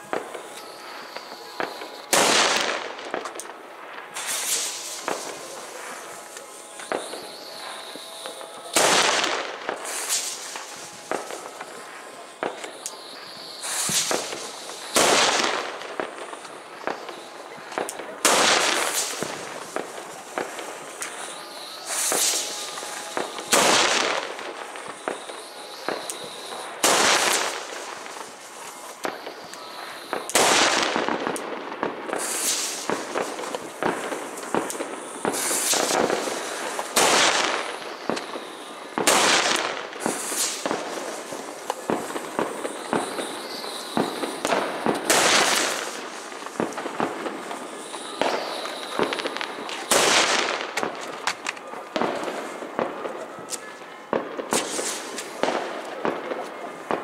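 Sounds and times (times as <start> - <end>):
small firecracker pops: 0.0 - 11.8, 12.4 - 57.0
fireworks loud bangs: 0.0 - 57.0.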